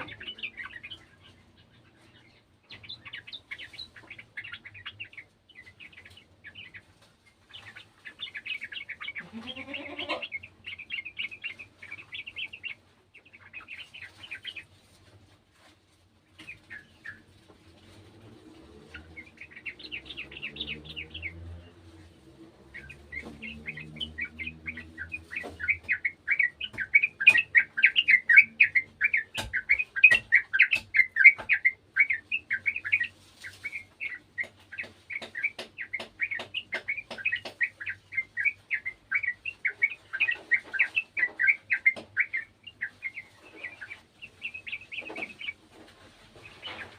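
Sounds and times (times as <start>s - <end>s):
bird chirping song: 0.0s - 46.9s.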